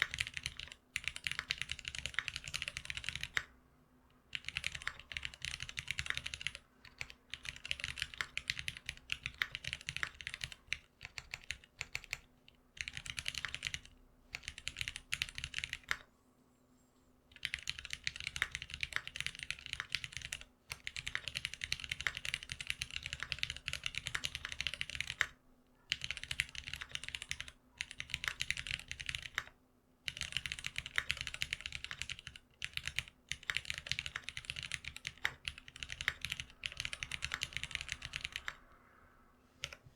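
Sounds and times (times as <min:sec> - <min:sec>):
mechanical keyboard typing: 0:00.0 - 0:03.5, 0:04.2 - 0:16.1, 0:17.3 - 0:38.8, 0:39.6 - 0:39.8.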